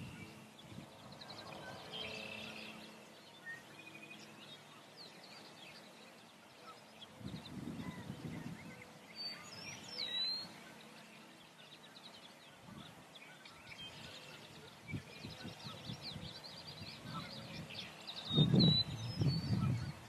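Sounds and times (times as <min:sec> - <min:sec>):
birds chirping and twittering: 0:00.0 - 0:20.0.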